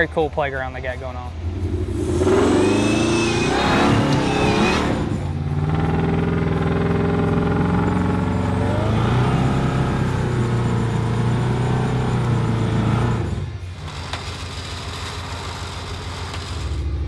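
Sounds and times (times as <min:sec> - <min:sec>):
car engine revving: 0:01.3 - 0:17.0.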